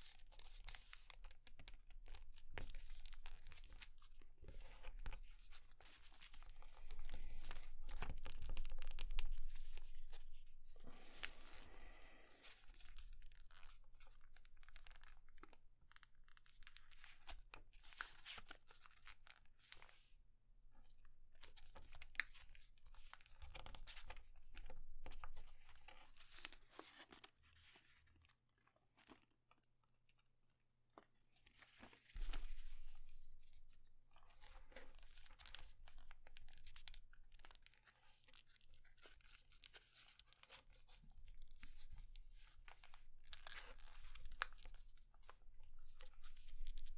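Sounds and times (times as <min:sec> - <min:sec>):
paper crinkling as it is folded: 0:00.0 - 0:20.1, 0:20.8 - 0:29.6, 0:31.4 - 0:46.9.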